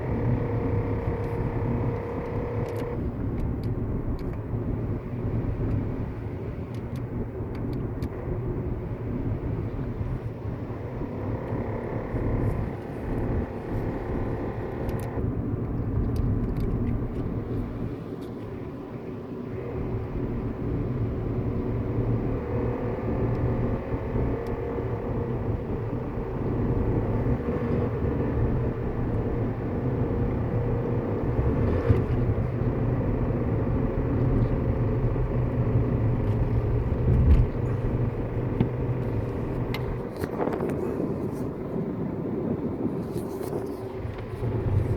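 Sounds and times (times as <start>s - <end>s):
car engine and road drone: 0.0s - 44.9s.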